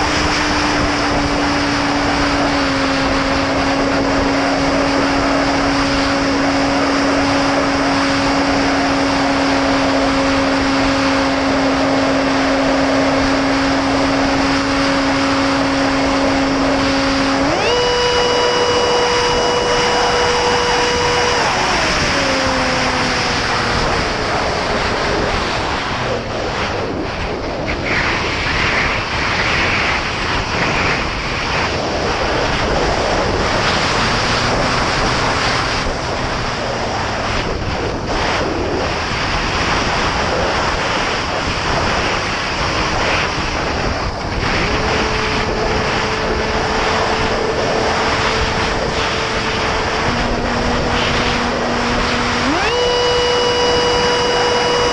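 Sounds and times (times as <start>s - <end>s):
electric motor and propeller whine: 0.0s - 54.9s
wind buffeting microphone: 0.0s - 54.9s.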